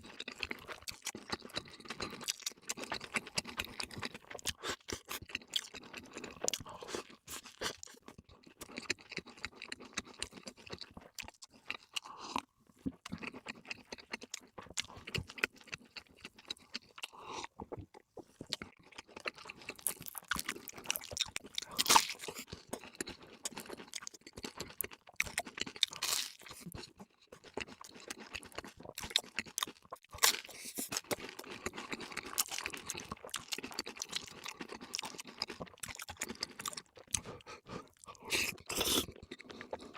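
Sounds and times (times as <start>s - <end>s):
crunching of food: 0.0s - 39.9s
wet chewing: 0.1s - 39.9s.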